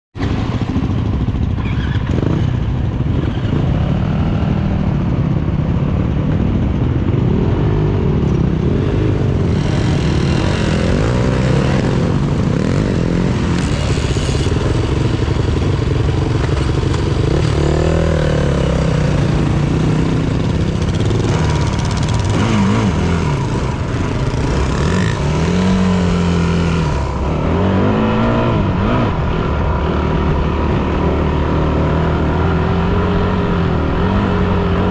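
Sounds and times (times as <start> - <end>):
motorcycle engine revving: 0.2 - 34.9
steady rushing noise: 0.2 - 34.9.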